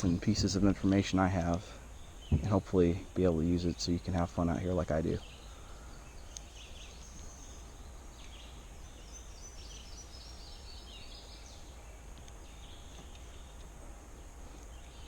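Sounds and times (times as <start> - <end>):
bird chirps: 0.0 - 15.0
high insect drone: 0.0 - 15.0
low steady rumble: 0.0 - 15.0.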